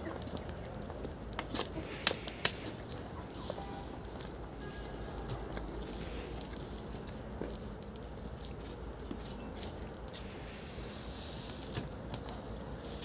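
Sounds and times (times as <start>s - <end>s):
burning straw crackling: 0.0s - 13.0s.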